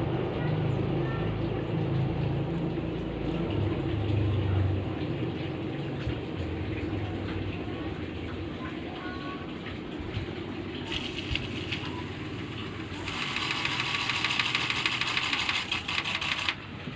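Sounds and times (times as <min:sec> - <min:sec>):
washing machine spin motor humming: 0:00.0 - 0:16.9.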